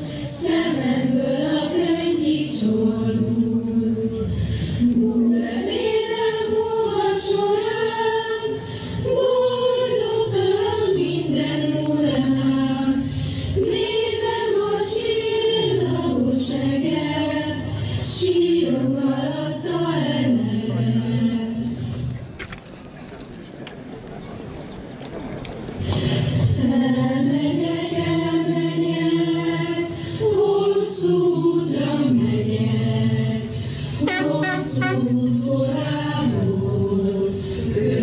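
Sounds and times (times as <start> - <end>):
choir singing slow melody: 0.0 - 22.1, 25.9 - 38.0.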